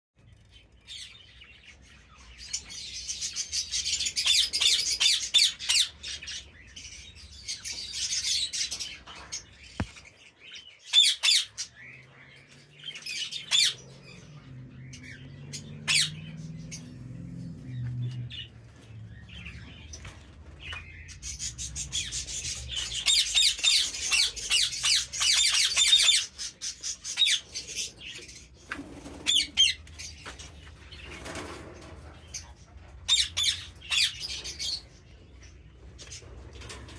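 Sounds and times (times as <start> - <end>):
small birds chirping: 0.2 - 36.9.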